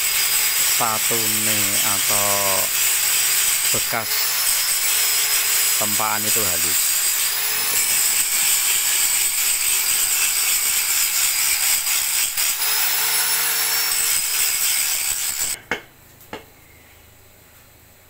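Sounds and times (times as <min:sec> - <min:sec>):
angle grinder grinding steel: 0:00.0 - 0:15.6.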